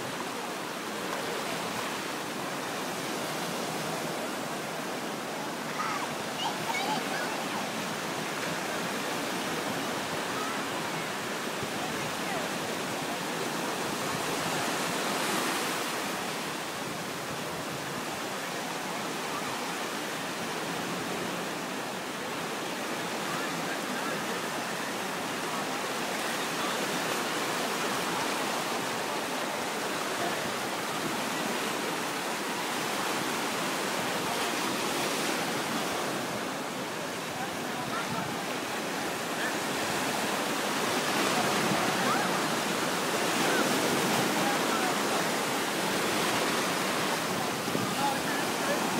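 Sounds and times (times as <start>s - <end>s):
surf washing up a beach: 0.0s - 48.9s.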